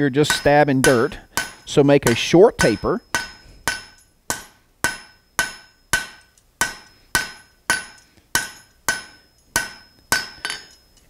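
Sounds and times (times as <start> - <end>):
hammer striking hot steel on anvil: 0.0 - 10.9.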